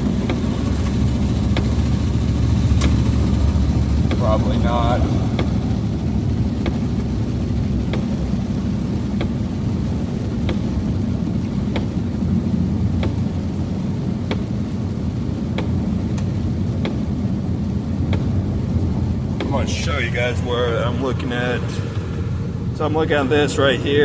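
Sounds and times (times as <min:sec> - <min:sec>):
road and engine rumble in car: 0:00.0 - 0:24.0.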